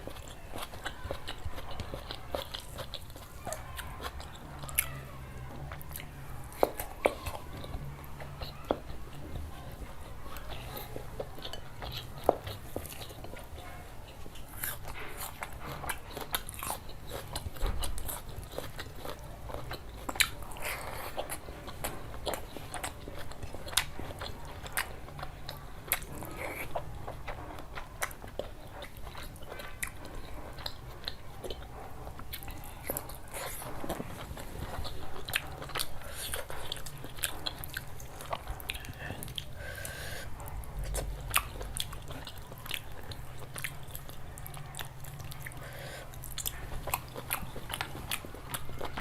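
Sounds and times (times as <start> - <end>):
person chewing food: 0.0 - 49.0.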